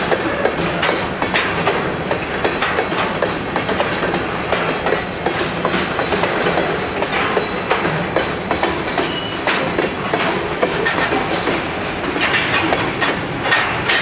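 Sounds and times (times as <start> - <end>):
train wheels rumbling on rail: 0.0 - 14.0
wheels clicking over rail joints: 0.0 - 14.0.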